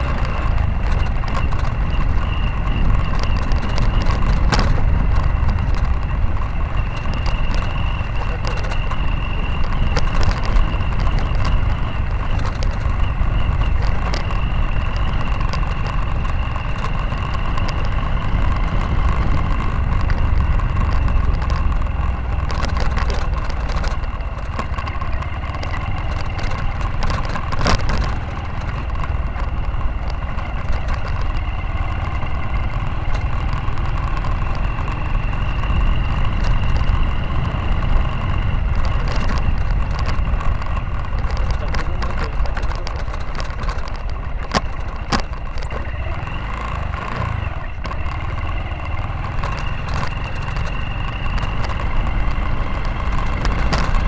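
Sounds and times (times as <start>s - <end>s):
knocks and rattles from bumps: 0.0s - 54.0s
motorcycle engine running: 0.0s - 54.0s.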